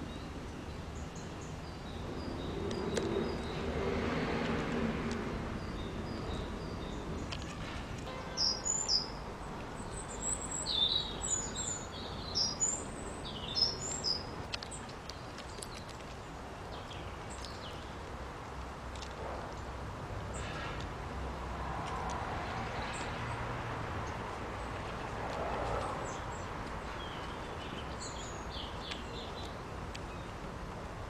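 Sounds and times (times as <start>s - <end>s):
songbird singing: 0.0s - 20.7s, 21.6s - 30.7s.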